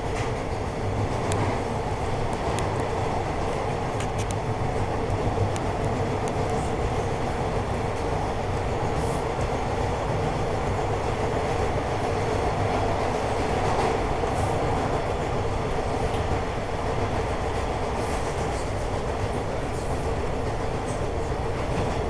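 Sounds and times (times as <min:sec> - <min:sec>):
subway car rumbling: 0:00.0 - 0:22.0.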